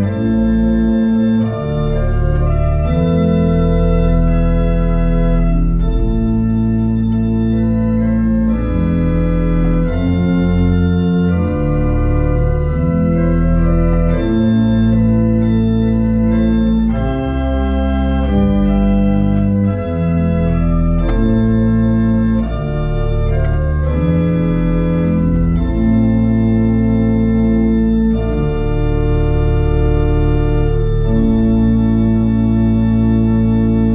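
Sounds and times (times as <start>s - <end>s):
pipe organ chords: 0.0s - 33.9s.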